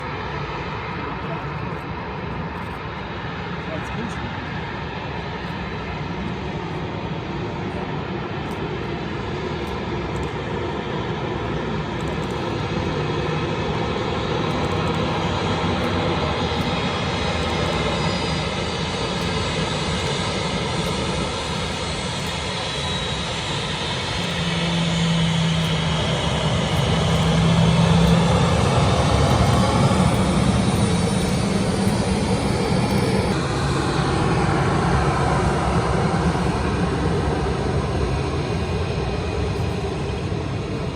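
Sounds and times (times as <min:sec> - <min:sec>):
airliner engines running: 0:00.0 - 0:40.9.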